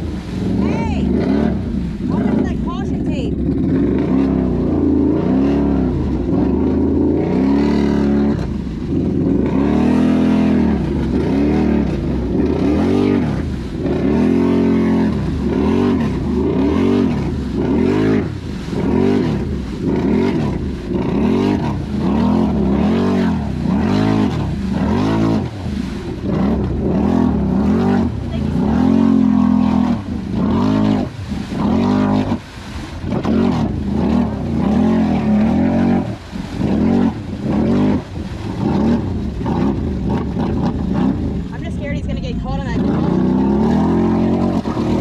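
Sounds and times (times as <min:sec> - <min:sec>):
atv engine revving: 0:00.0 - 0:45.0.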